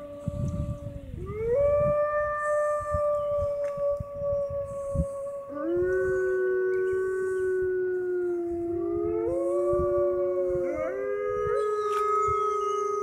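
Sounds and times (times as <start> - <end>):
wolves howling: 0.0 - 13.0.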